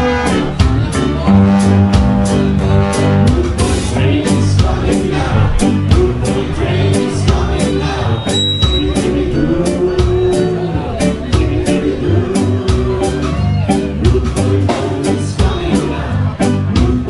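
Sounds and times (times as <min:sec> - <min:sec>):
ska band playing live: 0:00.0 - 0:17.0.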